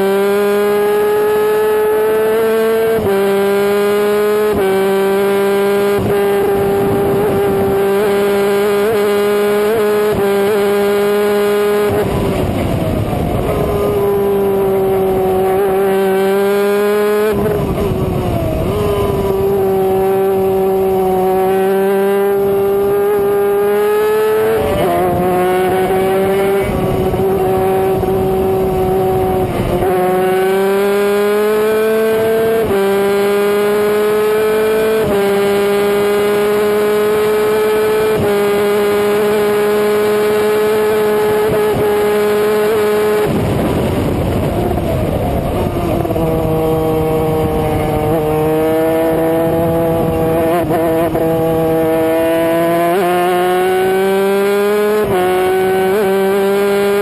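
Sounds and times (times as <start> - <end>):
kart engine at high revs: 0.0 - 57.0.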